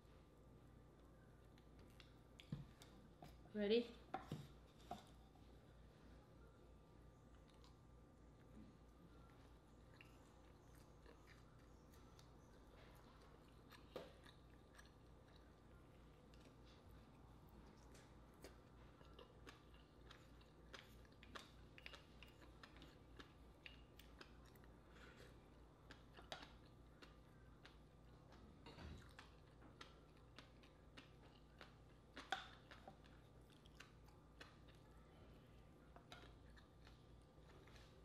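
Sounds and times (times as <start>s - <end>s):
person chewing: 7.2s - 38.0s.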